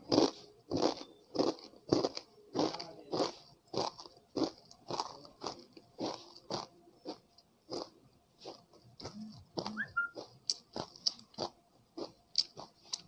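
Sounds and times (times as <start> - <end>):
chewing crunchy snack: 0.0 - 13.0.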